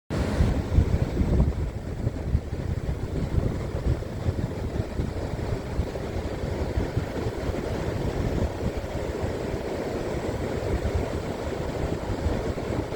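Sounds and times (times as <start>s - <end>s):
ocean waves: 0.1s - 12.9s
wind buffeting microphone: 0.1s - 12.9s.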